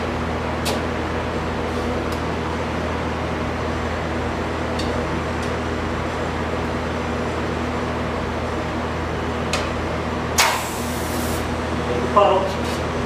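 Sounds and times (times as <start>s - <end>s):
welder arc buzzing hum: 0.0s - 13.0s.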